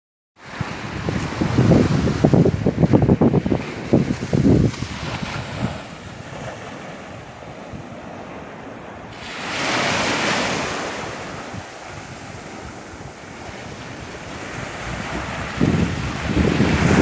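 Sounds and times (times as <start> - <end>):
ocean waves washing: 0.4 - 17.0
wave breaking and rushing in: 0.4 - 17.0
wind buffeting microphone: 0.4 - 17.0.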